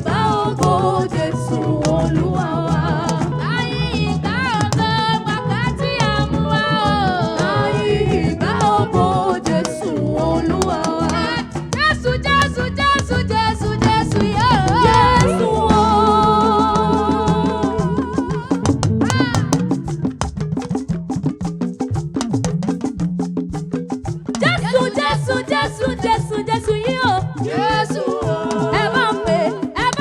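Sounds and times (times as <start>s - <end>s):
gospel singing: 0.0s - 18.8s, 24.7s - 30.0s
band with drums and percussion: 0.0s - 30.0s.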